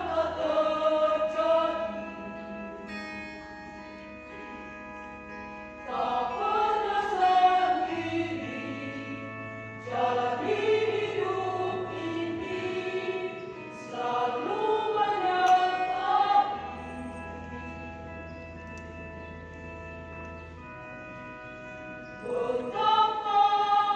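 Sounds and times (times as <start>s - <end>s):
church choir singing: 0.0s - 23.9s
held keyboard chords: 0.0s - 23.9s.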